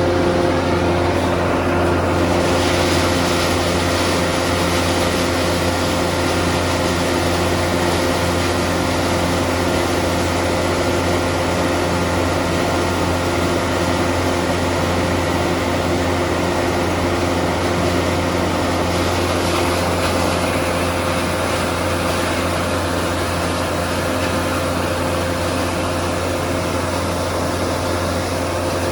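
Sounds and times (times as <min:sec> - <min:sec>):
wood crusher engine droning: 0:00.0 - 0:28.9.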